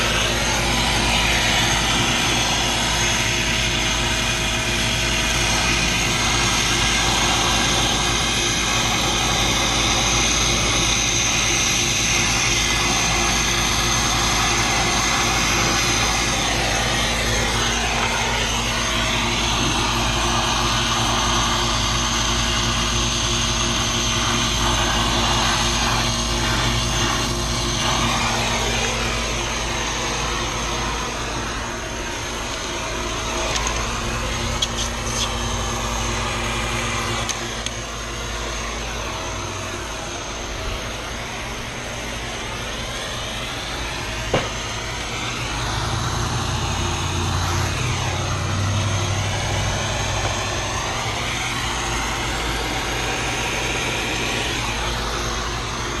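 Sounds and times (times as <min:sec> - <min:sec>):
machine humming and whirring: 0:00.0 - 0:56.0.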